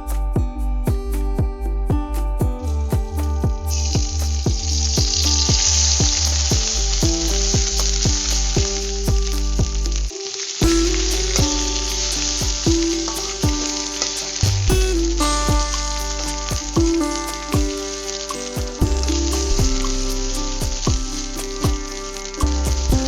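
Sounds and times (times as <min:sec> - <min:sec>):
background music with beat: 0:00.0 - 0:23.0
food sizzling in hot oil: 0:03.8 - 0:22.9.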